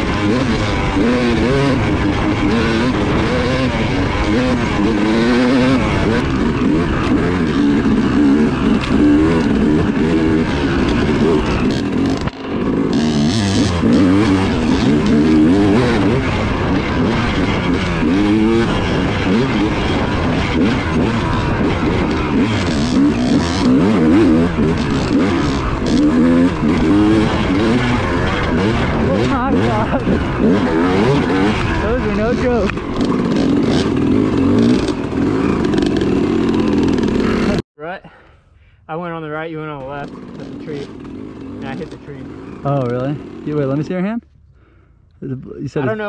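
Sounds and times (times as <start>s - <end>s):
dirt bike engine revving: 0.0s - 37.6s, 39.2s - 44.8s.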